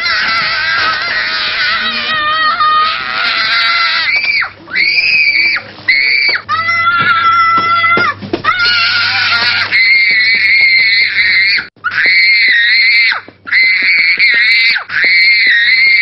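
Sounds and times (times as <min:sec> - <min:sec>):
young boy screaming: 0:00.0 - 0:16.0.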